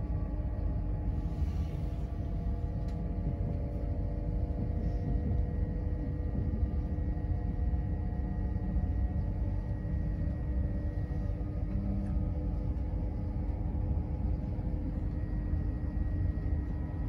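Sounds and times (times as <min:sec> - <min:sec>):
faint steady tones: 0:00.0 - 0:17.0
train rumbling on the track: 0:00.0 - 0:17.0.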